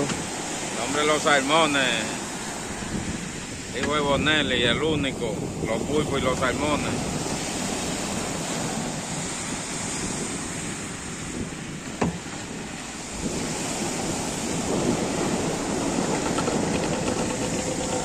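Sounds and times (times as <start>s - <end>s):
surf breaking on beach: 0.0s - 18.0s
wind buffeting microphone: 0.0s - 18.0s.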